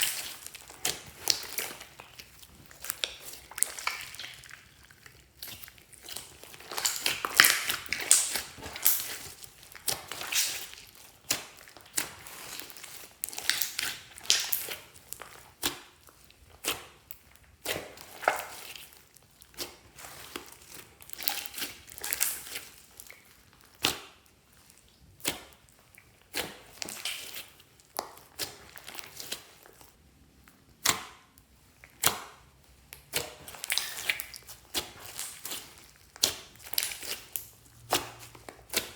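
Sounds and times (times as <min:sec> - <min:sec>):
slime crackling and popping: 0:00.0 - 0:30.0, 0:31.8 - 0:38.9.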